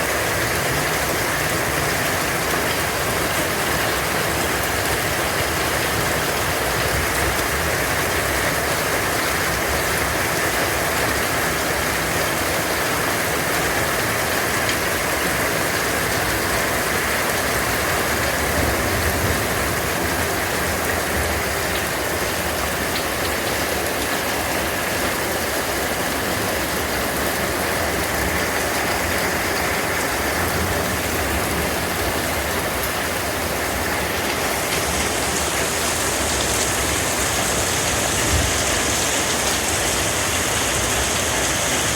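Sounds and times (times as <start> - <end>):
hail and rain pelting down: 0.0 - 41.9.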